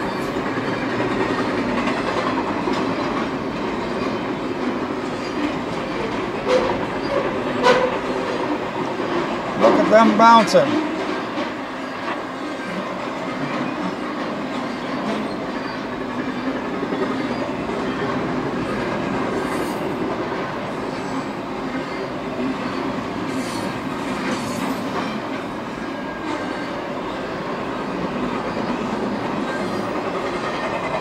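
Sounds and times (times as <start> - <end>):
train wheels clattering on rail: 0.0 - 31.0.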